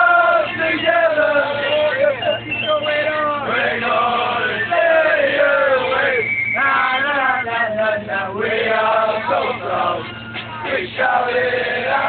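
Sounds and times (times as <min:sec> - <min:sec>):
men singing a chant together: 0:00.0 - 0:10.0, 0:10.7 - 0:12.0.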